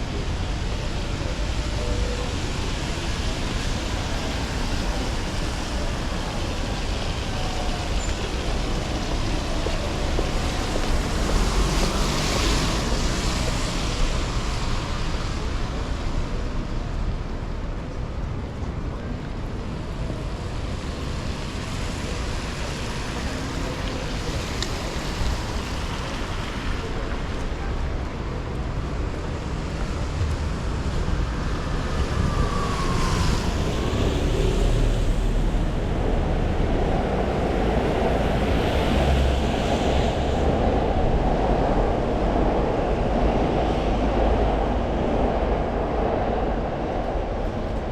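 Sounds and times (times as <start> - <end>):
rain: 0.0 - 47.9
street traffic: 0.0 - 47.9
wind buffeting microphone: 0.0 - 47.9.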